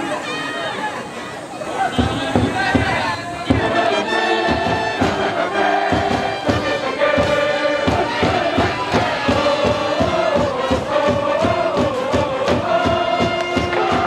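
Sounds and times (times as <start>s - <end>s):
brass band playing: 0.0s - 14.0s
steady drum beat: 1.9s - 14.0s.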